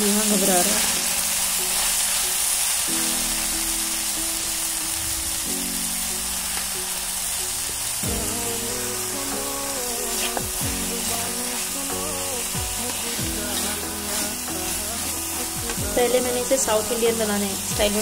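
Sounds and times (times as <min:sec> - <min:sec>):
background music of long held notes: 0:00.0 - 0:18.0
prawns and onions sizzling in a pan: 0:00.0 - 0:18.0.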